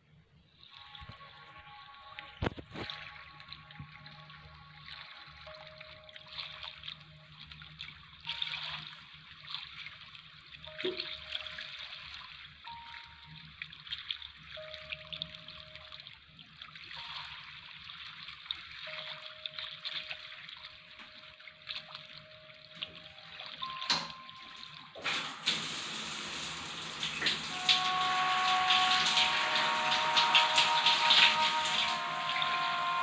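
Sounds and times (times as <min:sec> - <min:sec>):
shower water running and splashing: 0:00.6 - 0:33.0.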